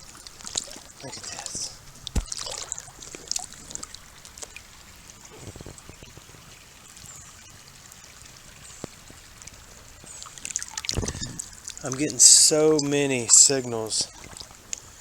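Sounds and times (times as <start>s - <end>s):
creek water trickling: 0.0s - 15.0s
small clicks and light splashes: 0.0s - 15.0s.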